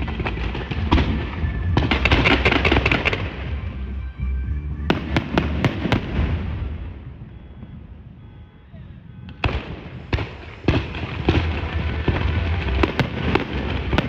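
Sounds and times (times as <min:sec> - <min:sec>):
fireworks bangs: 0:00.0 - 0:04.0, 0:04.8 - 0:08.1, 0:08.8 - 0:14.0
fireworks crackling: 0:00.0 - 0:04.1, 0:04.7 - 0:07.8, 0:09.3 - 0:14.0.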